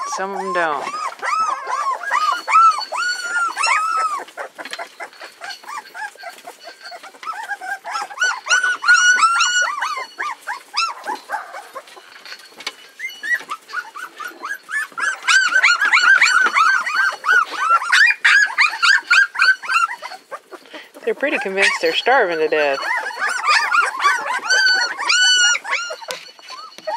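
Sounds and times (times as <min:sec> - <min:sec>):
puppies whining and yelping: 0:00.0 - 0:26.9.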